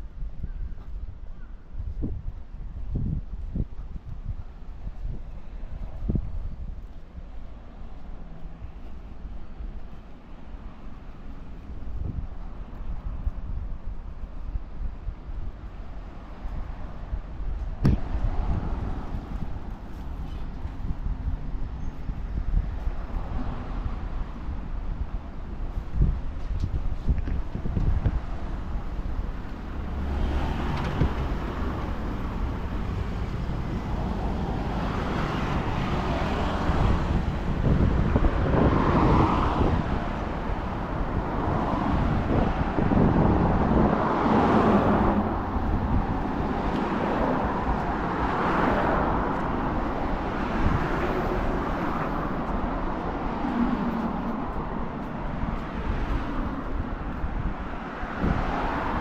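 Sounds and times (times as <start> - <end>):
background highway traffic: 0.0 - 59.0
vehicles passing: 0.0 - 59.0.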